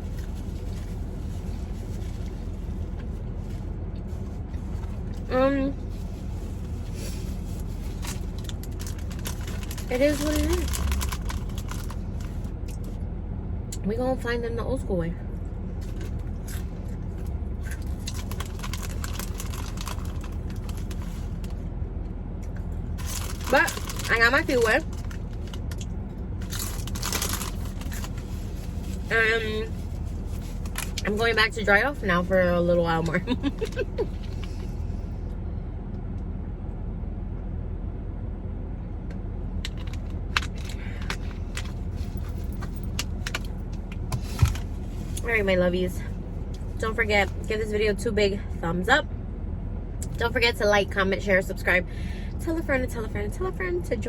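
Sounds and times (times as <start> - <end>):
air conditioner hum: 0.0 - 54.0.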